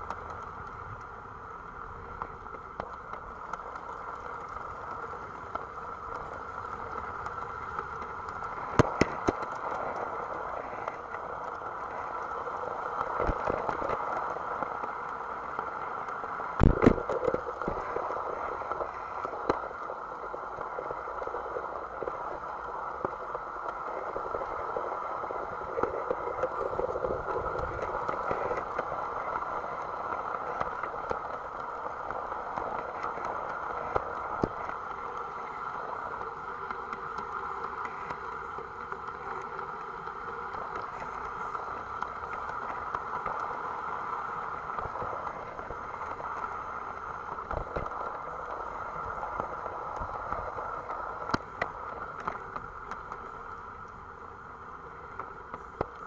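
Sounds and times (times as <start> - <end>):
model train running gear hum: 0.0 - 56.0
wheels clicking on rails: 0.0 - 56.0.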